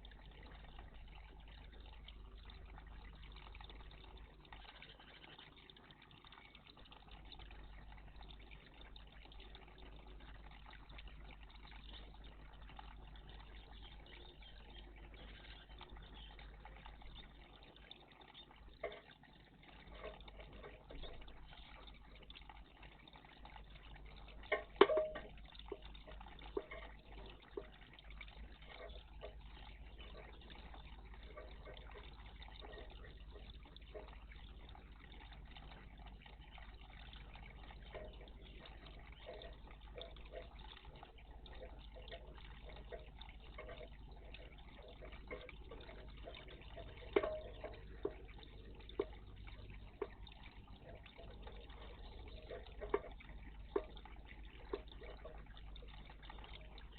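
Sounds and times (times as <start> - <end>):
quiet steady water sound: 0.0 - 56.9
small birds splashing in water: 0.0 - 56.9.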